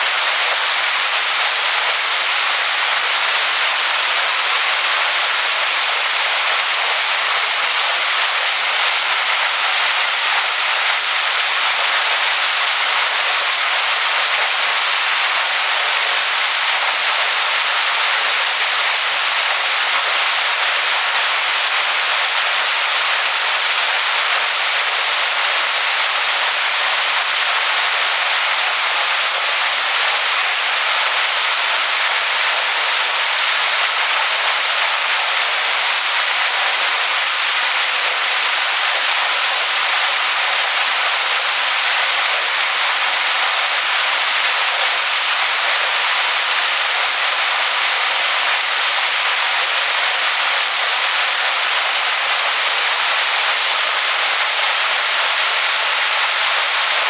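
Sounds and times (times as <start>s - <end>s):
waterfall splashing onto rocks: 0.0s - 57.0s.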